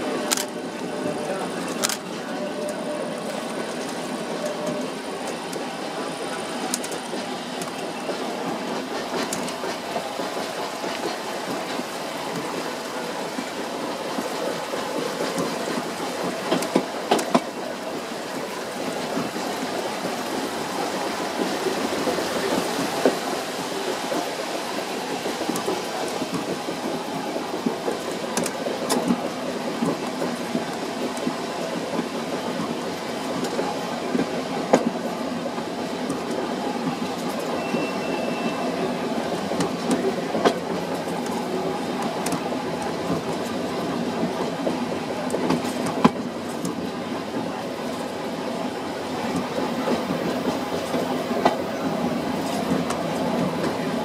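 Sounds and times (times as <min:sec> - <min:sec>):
train clattering and rumbling: 0:00.0 - 0:54.0.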